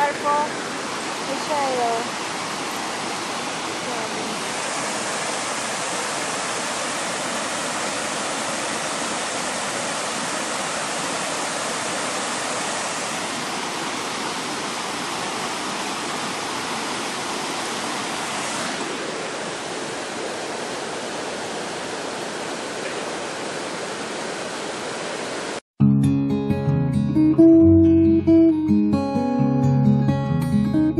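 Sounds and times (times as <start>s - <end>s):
water rushing over rapids: 0.0s - 25.6s.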